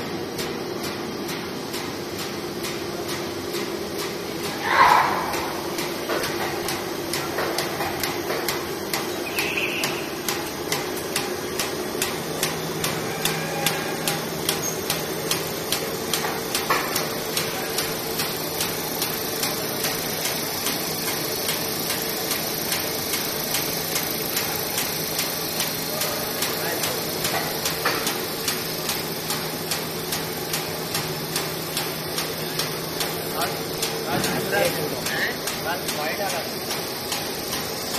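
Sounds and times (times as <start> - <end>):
machine humming: 0.0 - 37.9
sharp machine clicks: 0.4 - 37.9.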